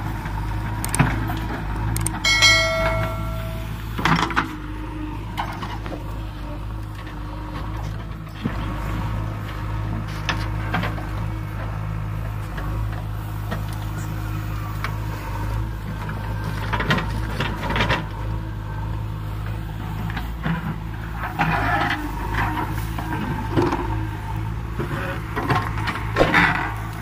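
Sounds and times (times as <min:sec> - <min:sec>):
diesel engine running: 0:03.6 - 0:27.0.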